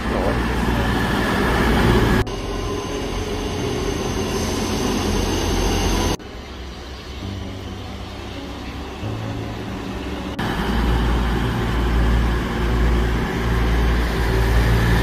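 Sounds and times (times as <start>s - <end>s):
diesel train passing: 0.0s - 15.0s
distant train approaching: 0.0s - 15.0s.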